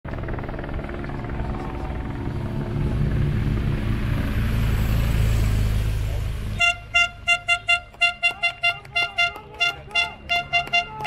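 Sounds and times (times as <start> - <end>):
helicopter rotor drone: 0.1 - 11.0
motorcycle passing: 0.1 - 11.0.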